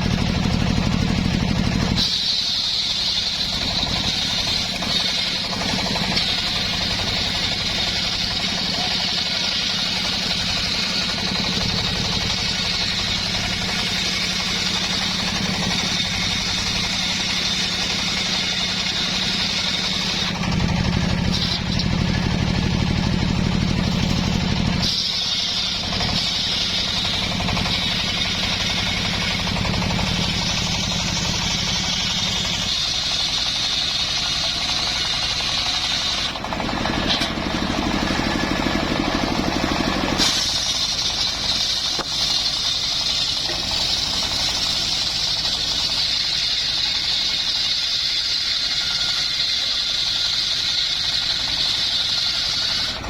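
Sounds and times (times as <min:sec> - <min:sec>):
engine-driven wood saw running: 0:00.0 - 0:53.0.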